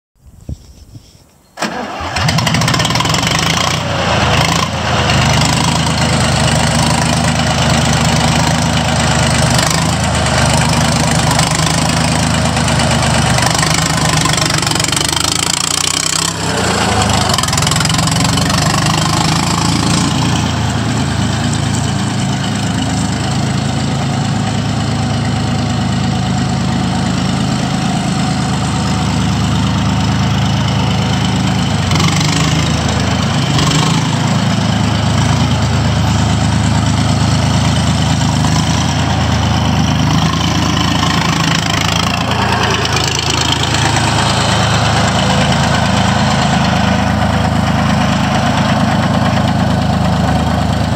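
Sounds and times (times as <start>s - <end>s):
tractor diesel engine running: 1.6s - 50.9s.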